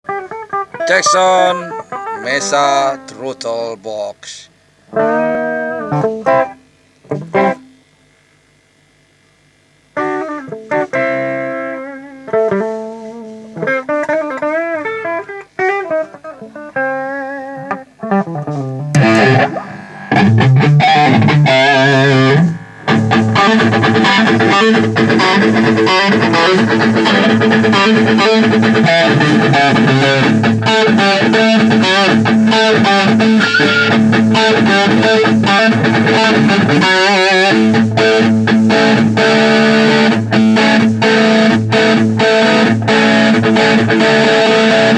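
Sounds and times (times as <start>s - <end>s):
distorted electric guitar: 0.0s - 44.9s.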